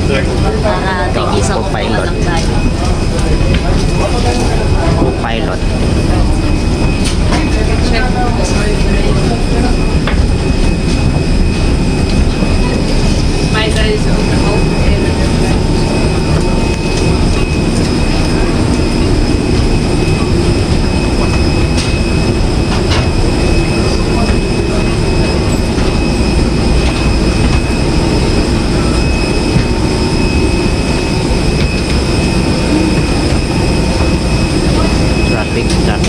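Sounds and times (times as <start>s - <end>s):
cabin air system rumble: 0.0s - 36.0s
thin steady whines: 0.0s - 36.0s.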